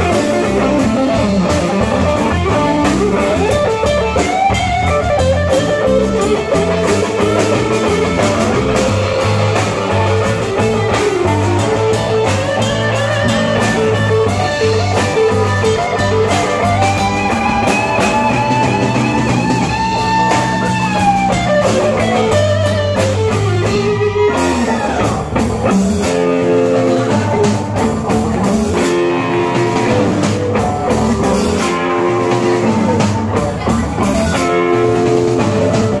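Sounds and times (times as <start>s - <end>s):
blues rock band playing: 0.0s - 36.0s
electric guitar lead: 0.0s - 36.0s.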